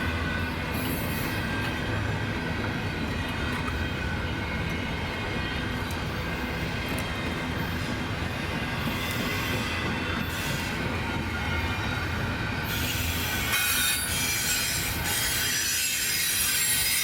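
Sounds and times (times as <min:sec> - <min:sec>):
railcars rumbling on track: 0:00.0 - 0:17.0.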